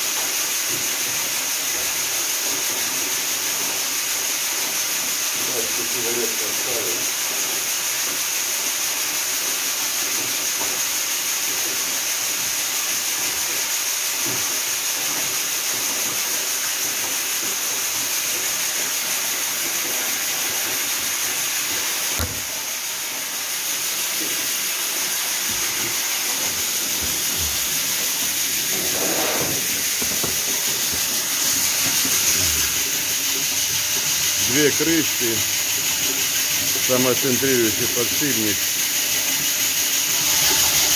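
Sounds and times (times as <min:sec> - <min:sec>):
grain churning hiss: 0:00.0 - 0:40.9.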